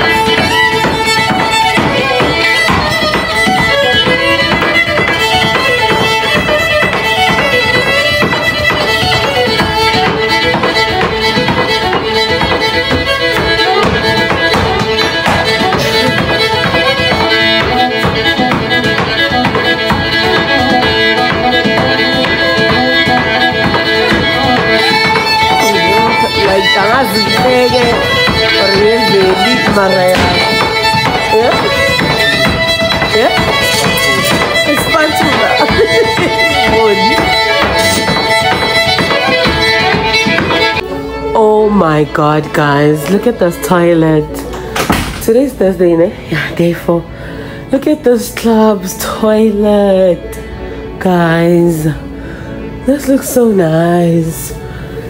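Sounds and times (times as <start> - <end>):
shoes tapping on wooden board: 0.0 - 45.4
fiddle tune: 0.0 - 55.0.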